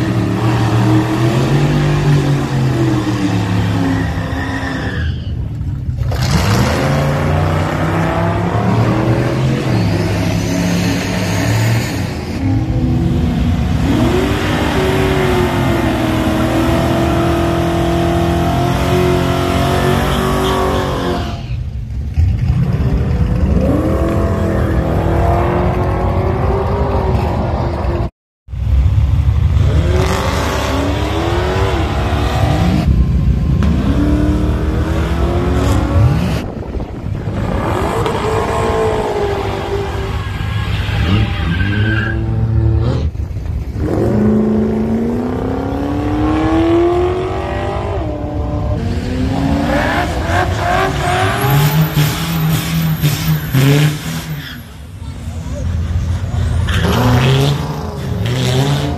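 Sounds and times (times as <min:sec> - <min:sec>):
car engines revving hard: 0:00.0 - 0:58.9.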